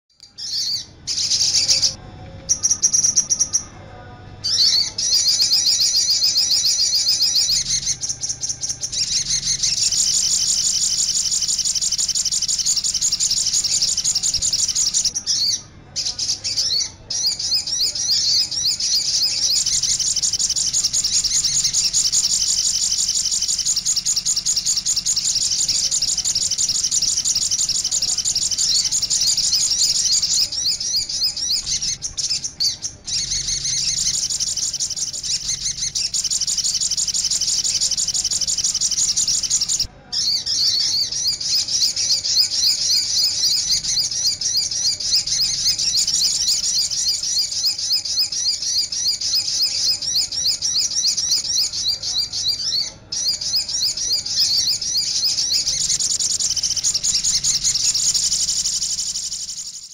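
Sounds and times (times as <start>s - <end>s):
bird twittering song: 0.1s - 59.9s.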